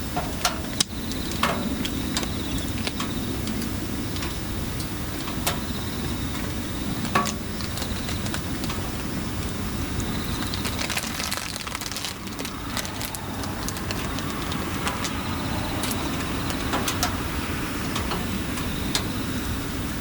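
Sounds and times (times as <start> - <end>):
fire crackling and popping: 0.0 - 20.0
wood fire draft rushing: 0.0 - 20.0.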